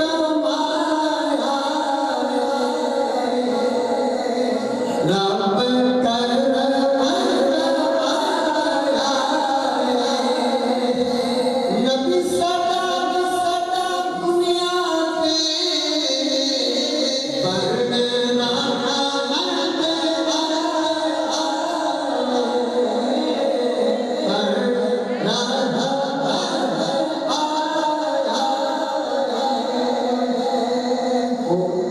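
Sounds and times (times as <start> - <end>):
voices singing devotional song: 0.0 - 31.9.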